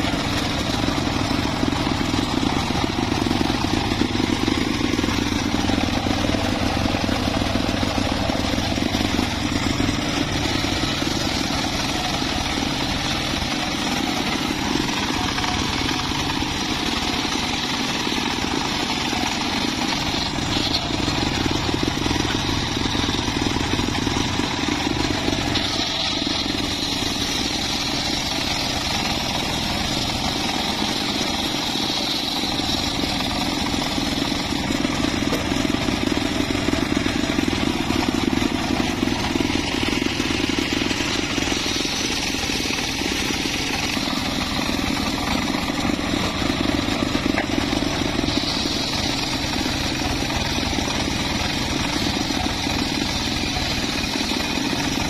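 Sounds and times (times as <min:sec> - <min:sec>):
circular saw ripping wood: 0:02.8 - 0:36.2, 0:36.9 - 0:55.0.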